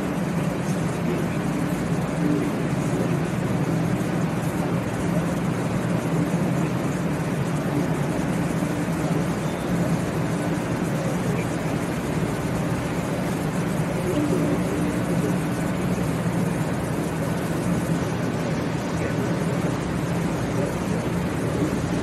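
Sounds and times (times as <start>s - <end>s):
station noise: 0.0s - 22.0s
train equipment humming: 0.0s - 22.0s.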